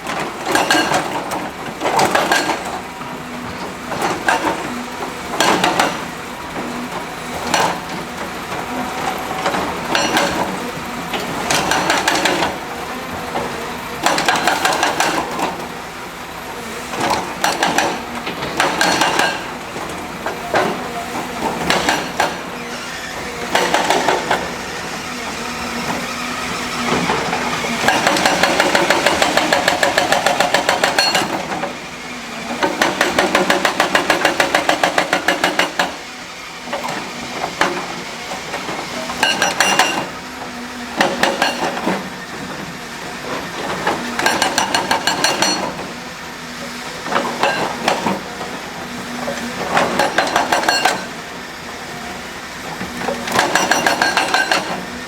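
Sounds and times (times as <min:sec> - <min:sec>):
excavator engine running: 0:00.0 - 0:55.0.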